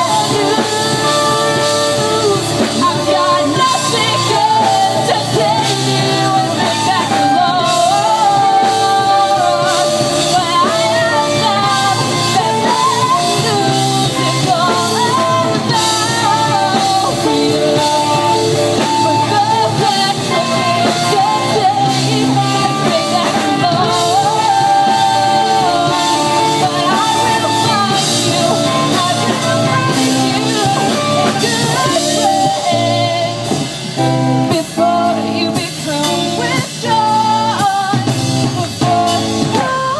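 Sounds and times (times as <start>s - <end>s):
drums: 0.0s - 39.9s
electric guitar: 0.0s - 39.9s
person singing: 0.0s - 39.9s.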